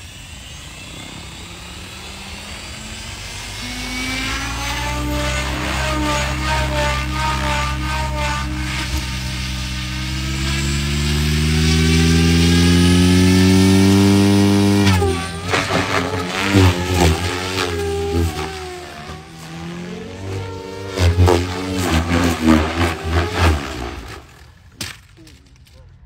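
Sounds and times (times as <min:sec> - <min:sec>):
rc helicopter motor and rotor: 0:00.0 - 0:25.8.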